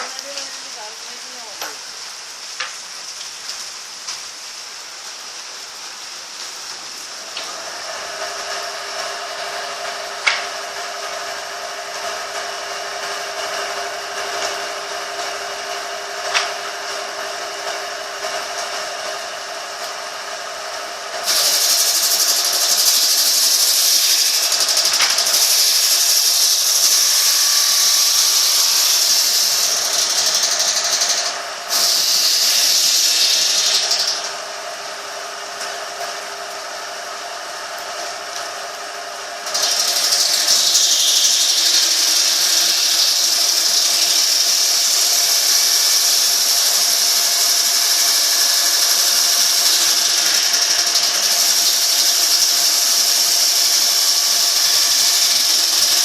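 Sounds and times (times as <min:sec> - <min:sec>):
sawmill saw cutting wood: 0:00.0 - 0:01.9, 0:07.1 - 0:56.0.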